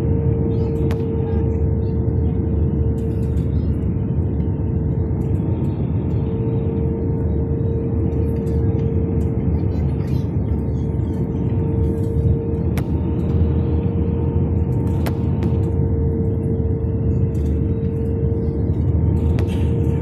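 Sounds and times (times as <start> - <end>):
constant hum: 0.0 - 20.0
jet engine roar: 0.0 - 20.0.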